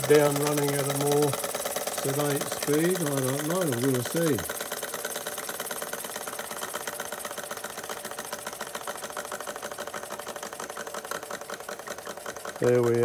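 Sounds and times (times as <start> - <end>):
toy steam engine clattering: 0.0 - 13.0.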